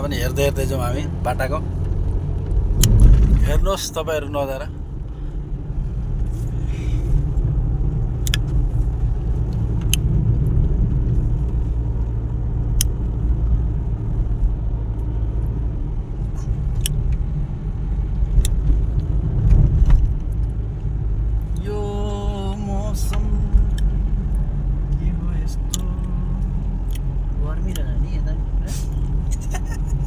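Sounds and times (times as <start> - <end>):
car road rumble from inside: 0.0 - 30.0.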